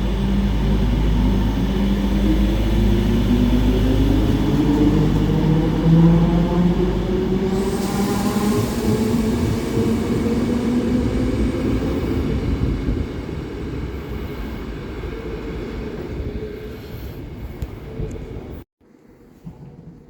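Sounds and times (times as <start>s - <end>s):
electric train rumbling: 0.0s - 18.6s.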